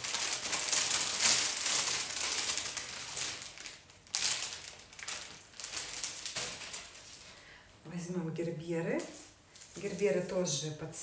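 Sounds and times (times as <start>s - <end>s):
wrapping crinkling and rustling: 0.0s - 7.8s, 8.8s - 11.0s.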